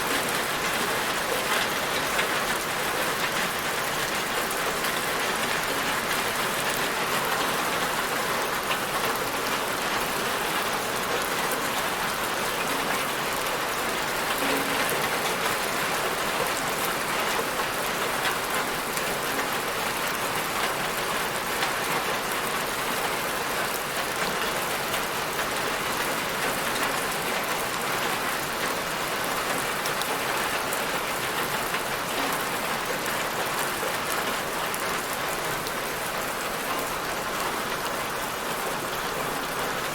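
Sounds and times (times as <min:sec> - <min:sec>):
rain pattering on surface: 0:00.0 - 0:39.9.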